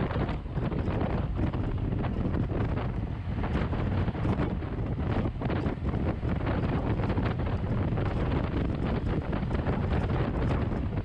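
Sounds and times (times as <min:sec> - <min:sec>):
road noise: 0:00.0 - 0:11.0
wind noise on microphone: 0:00.0 - 0:11.0.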